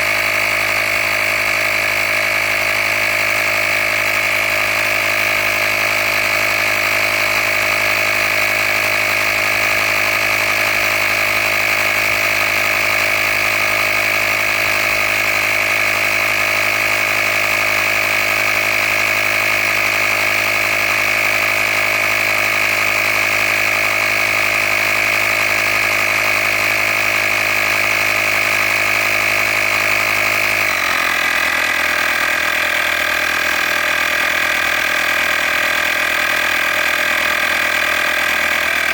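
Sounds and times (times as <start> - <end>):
air compressor motor whine: 0.0 - 38.9.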